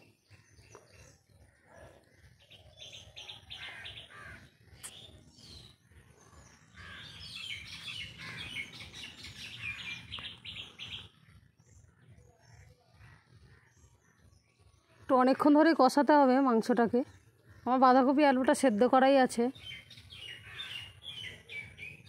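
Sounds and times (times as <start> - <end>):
small birds twittering: 0.0 - 22.0.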